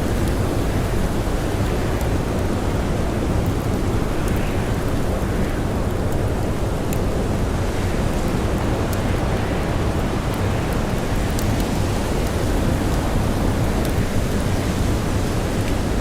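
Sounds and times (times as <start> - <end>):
campfire crackling: 0.0 - 16.0
storm wind and blowing snow: 0.0 - 16.0.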